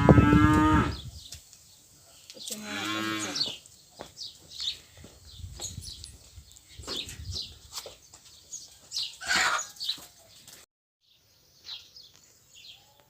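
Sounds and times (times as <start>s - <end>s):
small birds chirping: 0.9s - 13.0s.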